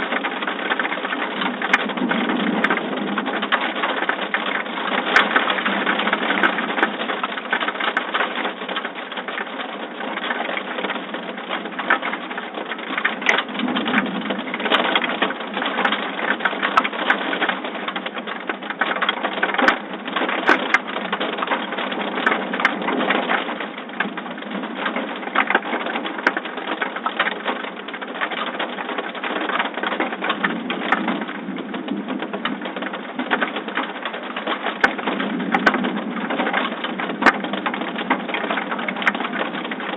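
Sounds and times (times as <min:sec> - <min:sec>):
heavy rain pattering and splashing: 0:00.0 - 0:39.9.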